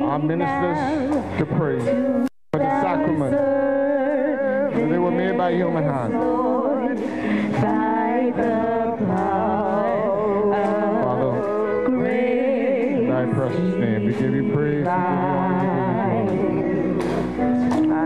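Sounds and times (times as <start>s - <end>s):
held accompaniment chords: 0.0s - 18.0s
woman singing a hymn: 2.0s - 18.0s.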